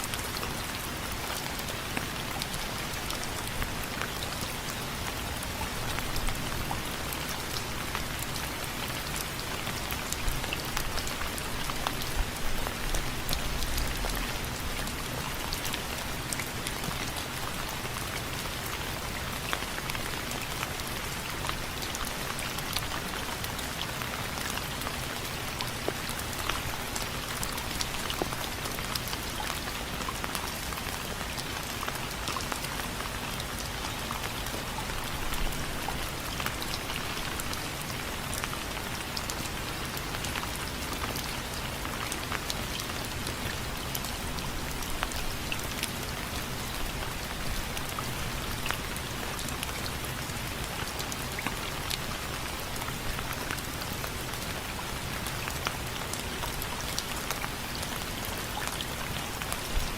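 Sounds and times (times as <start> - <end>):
rain on window frames: 0.0 - 59.9.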